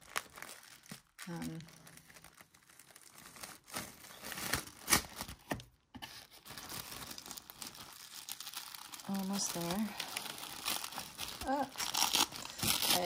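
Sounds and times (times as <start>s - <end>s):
paper tape tearing and rustling: 0.0s - 13.0s.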